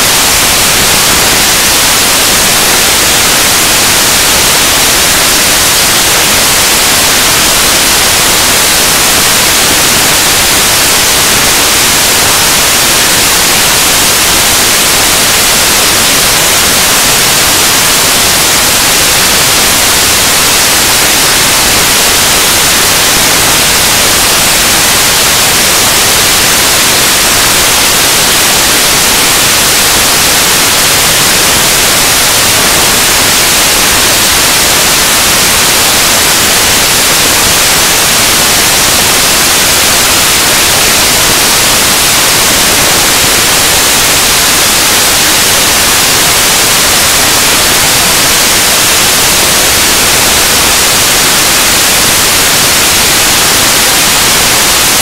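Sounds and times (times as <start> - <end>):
loud static hiss: 0.0 - 55.0.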